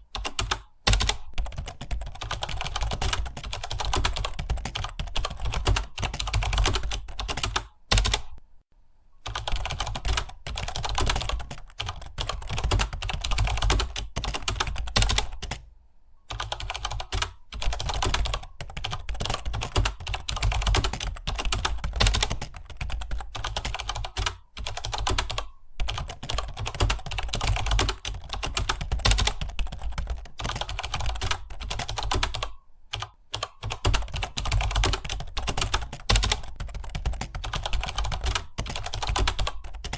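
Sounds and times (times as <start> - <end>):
fast typing on keyboard: 0.2 - 8.4, 9.2 - 15.6, 16.3 - 39.9.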